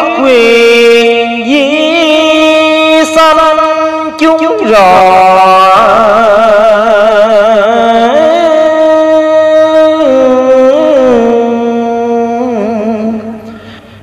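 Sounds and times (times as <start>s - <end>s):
man chanting over loudspeaker: 0.0s - 13.6s.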